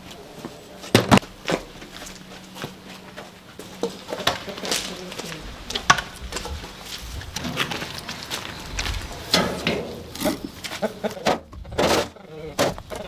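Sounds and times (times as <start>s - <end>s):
footsteps: 0.0s - 11.8s.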